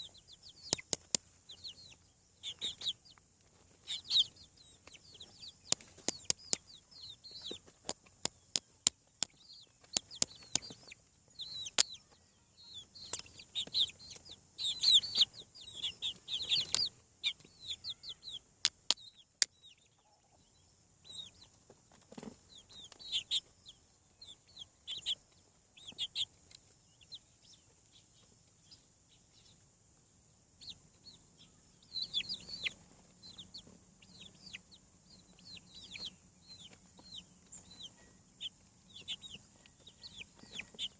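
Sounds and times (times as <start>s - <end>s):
chicks peeping and clucking: 0.0s - 40.9s.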